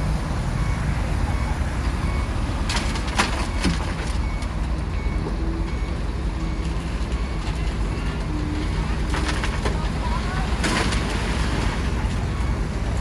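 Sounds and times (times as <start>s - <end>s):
bulldozer diesel engine: 0.0s - 13.0s.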